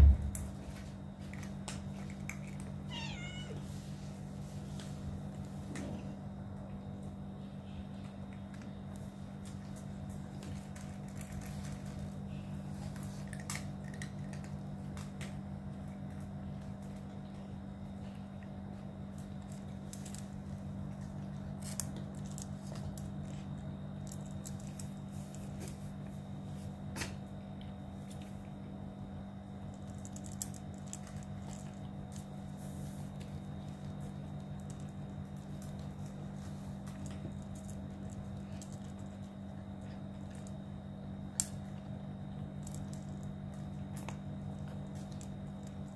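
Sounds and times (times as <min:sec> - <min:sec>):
cats crunching dry kibble: 0:00.0 - 0:45.9
steady low hum: 0:00.0 - 0:45.9.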